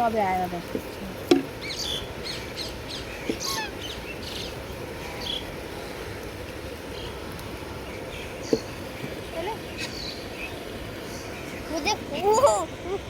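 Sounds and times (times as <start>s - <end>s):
outdoor background noise: 0.0s - 13.0s
birds chirping: 1.3s - 6.1s, 6.9s - 12.6s.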